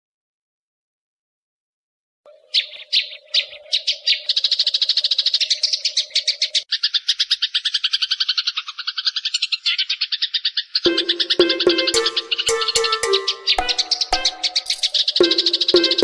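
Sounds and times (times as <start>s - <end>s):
songbird chirping chatter: 2.3s - 16.0s.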